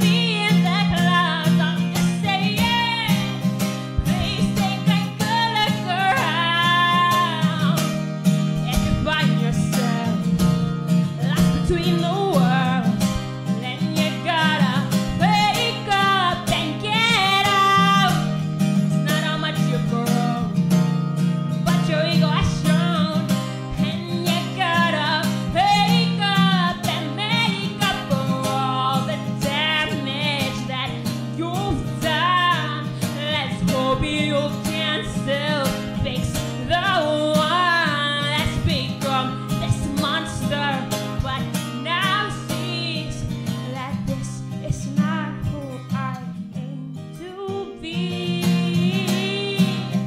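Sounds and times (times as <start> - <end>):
acoustic guitar strumming: 0.0 - 50.0
woman singing: 0.0 - 50.0.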